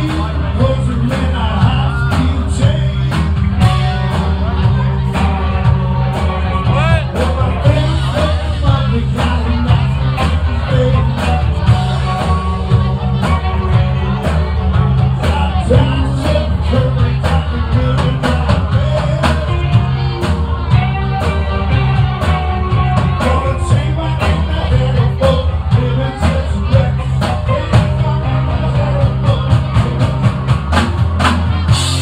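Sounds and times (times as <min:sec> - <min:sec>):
drum beat: 0:00.0 - 0:32.0
electric guitar: 0:00.0 - 0:32.0
heavy bass: 0:00.0 - 0:32.0
live rock band: 0:00.0 - 0:32.0.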